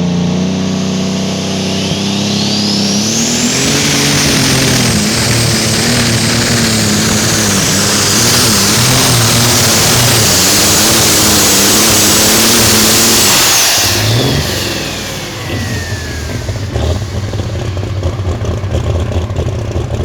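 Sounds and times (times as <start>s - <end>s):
diesel engine at full throttle: 0.0s - 20.0s
turbo whine: 0.0s - 20.0s.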